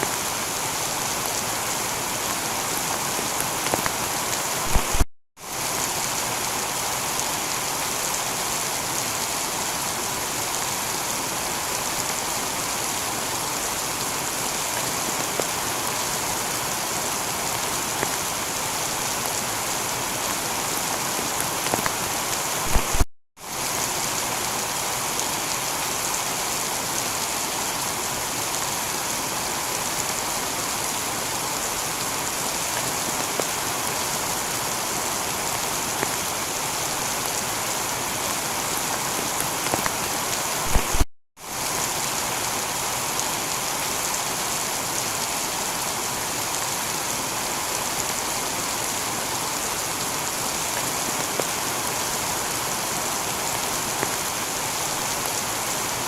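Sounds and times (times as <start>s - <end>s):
heavy rain on a tiled roof: 0.0s - 56.0s.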